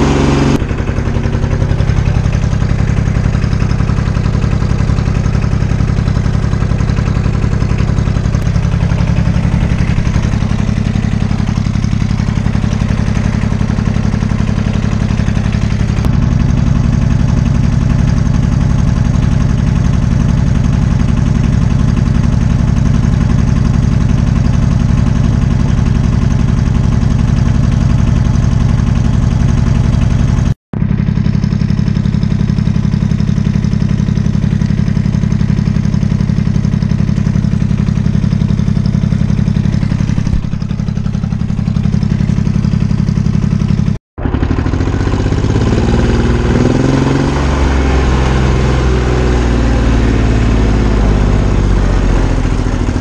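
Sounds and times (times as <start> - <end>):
small tractor engine running: 0.0 - 53.0.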